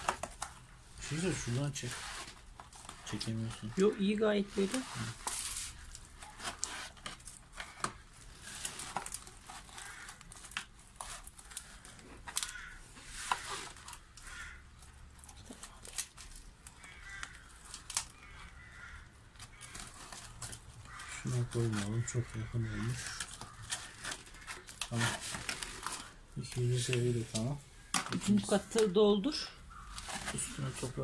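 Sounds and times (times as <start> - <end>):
plastic bottle crinkling: 0.0 - 29.0
soil rustling and clicks: 0.0 - 29.0.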